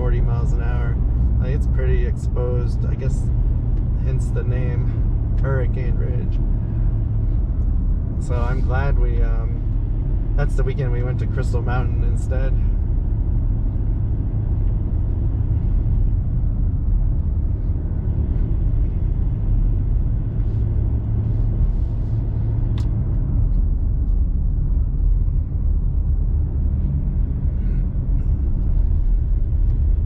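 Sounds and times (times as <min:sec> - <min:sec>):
engine and tyre rumble in cabin: 0:00.0 - 0:30.0.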